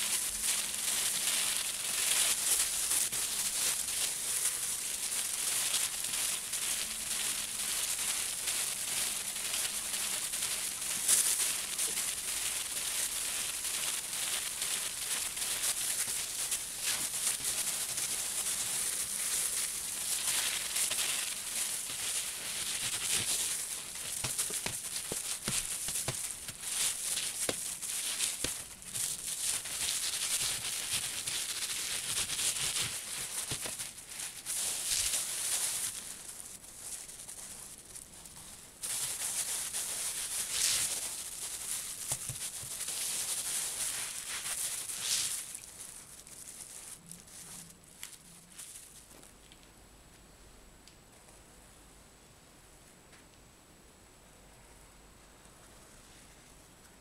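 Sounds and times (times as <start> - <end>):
gloved hands rubbing on bubble wrap: 0.0 - 49.4.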